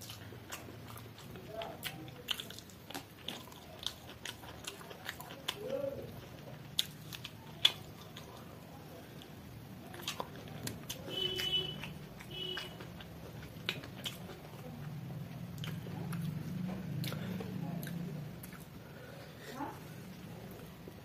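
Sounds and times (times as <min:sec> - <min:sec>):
close chewing and mouth clicks: 0:00.0 - 0:19.1.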